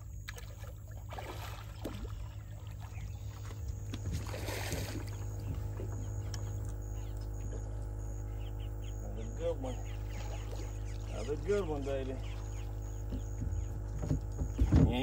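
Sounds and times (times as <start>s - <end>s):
fish splashing in water: 0.0s - 7.8s, 9.8s - 15.0s
steady low hum: 0.0s - 15.0s.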